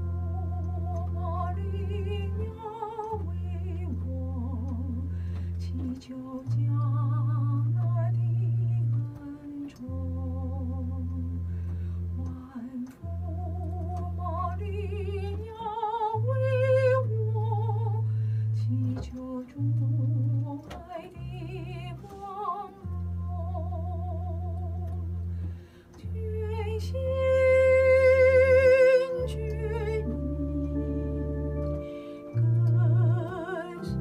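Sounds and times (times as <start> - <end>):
woman singing a hymn: 0.0 - 11.5, 12.2 - 25.1, 26.0 - 34.0
keyboard low chords: 0.0 - 34.0.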